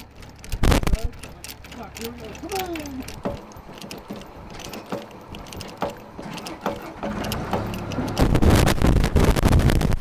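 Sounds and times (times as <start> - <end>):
ratchet binder clicking: 0.0 - 8.6
loud clatter: 0.0 - 10.0.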